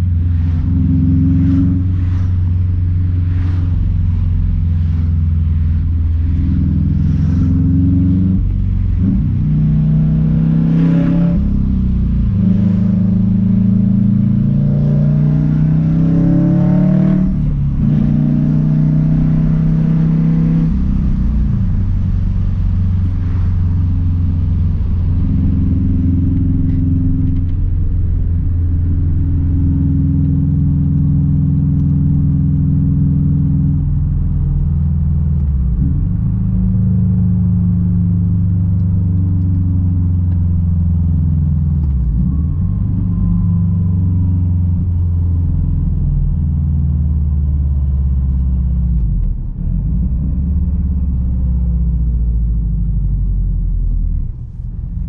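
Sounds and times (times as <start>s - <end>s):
loud car exhaust while driving: 0.0s - 55.0s.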